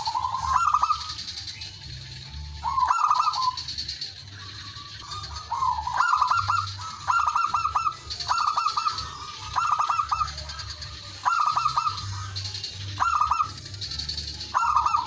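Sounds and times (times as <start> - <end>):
dove cooing song: 0.0 - 15.0.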